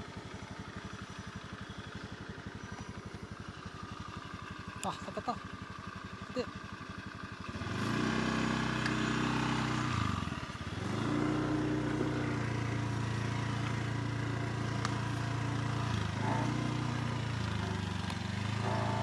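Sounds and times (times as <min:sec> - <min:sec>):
motor scooter engine running: 0:00.0 - 0:19.0.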